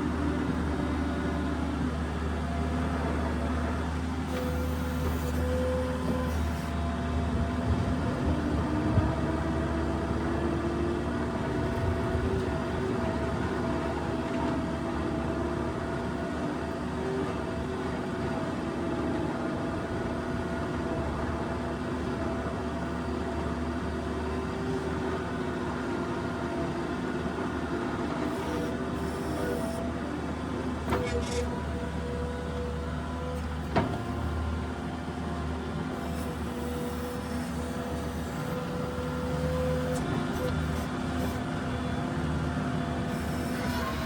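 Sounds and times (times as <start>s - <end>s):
diesel engine humming and whining: 0.0s - 44.0s.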